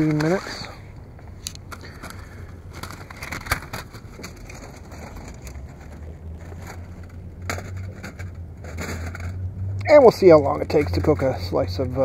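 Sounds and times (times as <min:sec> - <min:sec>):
gear clicking and crinkling: 0:00.0 - 0:12.0.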